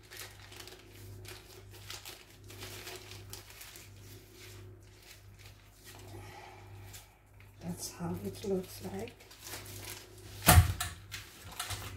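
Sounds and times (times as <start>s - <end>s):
baking paper crinkling: 0.0s - 11.9s.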